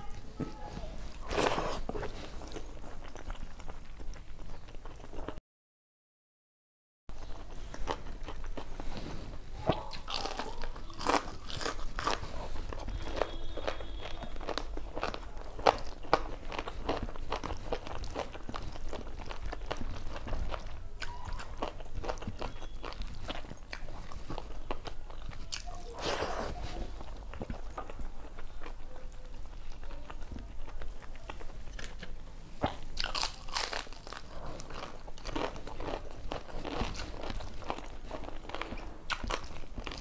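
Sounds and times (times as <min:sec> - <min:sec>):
crunching and chewing fritters: 0:00.0 - 0:05.4, 0:07.1 - 0:40.0.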